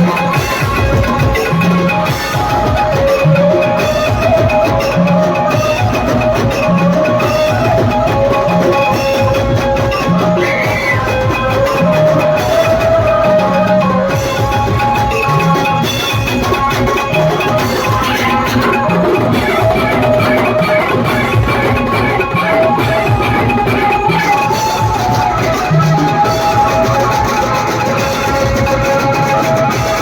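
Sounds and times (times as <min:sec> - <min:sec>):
procession drum beat: 0:00.0 - 0:30.0
wavering melody line: 0:00.0 - 0:30.0.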